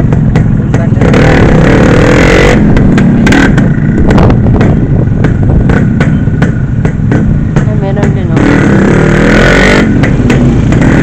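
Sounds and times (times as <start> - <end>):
sharp clattering knocks: 0.0 - 11.0
vehicle engine rumble: 0.0 - 11.0.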